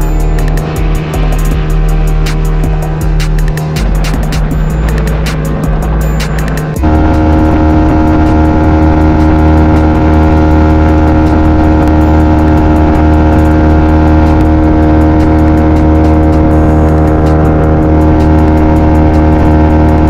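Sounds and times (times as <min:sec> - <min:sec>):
boat engine running loudly: 0:00.0 - 0:20.0.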